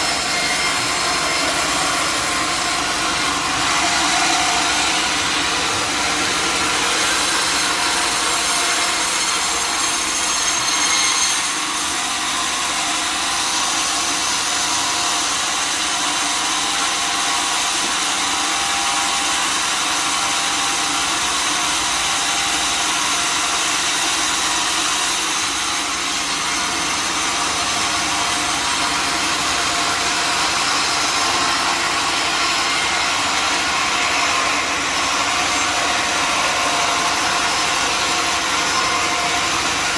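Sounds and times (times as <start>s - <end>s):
saw cutting through a log: 0.0s - 39.9s.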